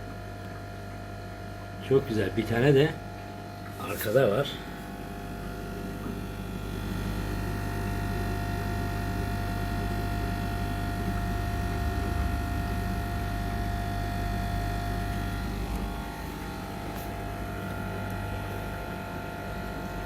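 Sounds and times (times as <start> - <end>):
aquarium equipment electric hum: 0.0 - 20.0.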